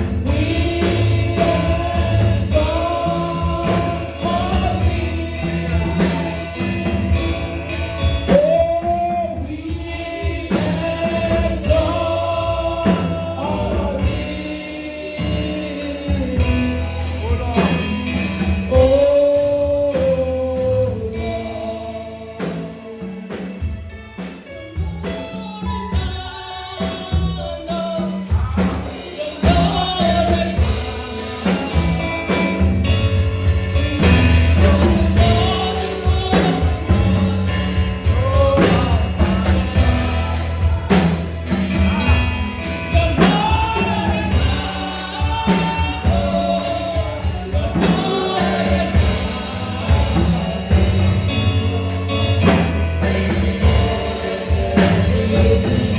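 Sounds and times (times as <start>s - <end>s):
band with bass and drums: 0.0s - 55.9s
voices singing gospel music: 0.0s - 55.9s.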